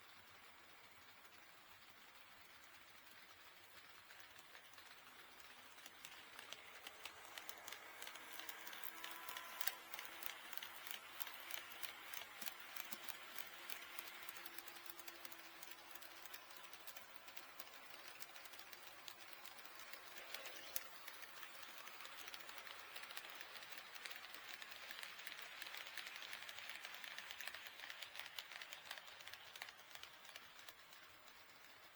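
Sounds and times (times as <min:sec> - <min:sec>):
model train wheels clicking: 0:00.0 - 0:31.9
faint motor hum: 0:00.1 - 0:31.9.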